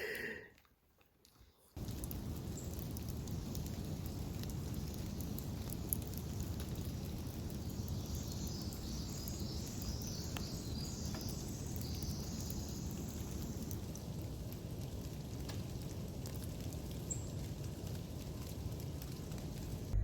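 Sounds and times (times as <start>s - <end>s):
sharp raindrop ticks: 0.1s - 20.0s
rain drumming on vehicle roof: 1.8s - 20.0s.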